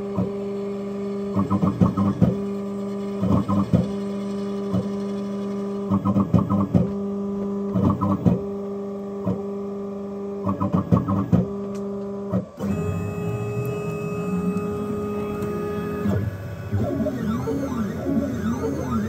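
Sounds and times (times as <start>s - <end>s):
desktop mill humming: 0.0s - 19.0s.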